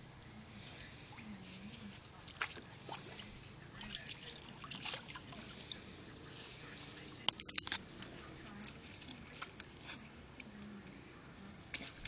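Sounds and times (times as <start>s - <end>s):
water splashing in a pool: 0.0s - 10.9s.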